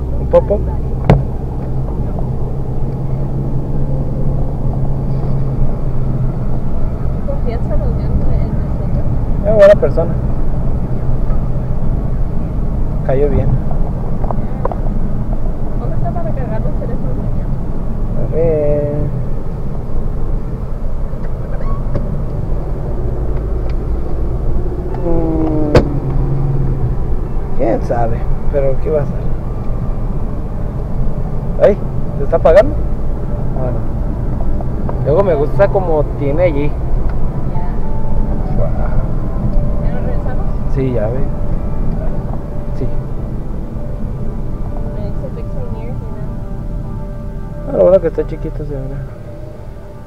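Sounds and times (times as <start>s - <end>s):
car road and engine rumble: 0.0s - 50.0s.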